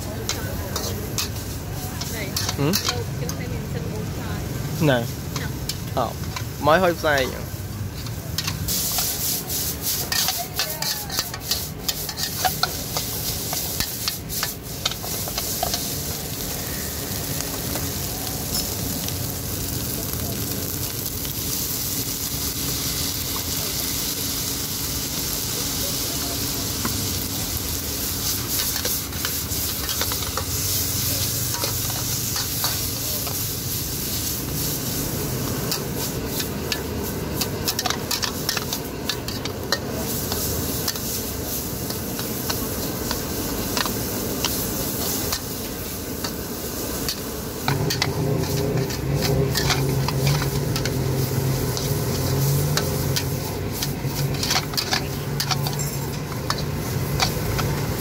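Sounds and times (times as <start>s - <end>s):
noodles sizzling in a wok: 0.0s - 58.0s.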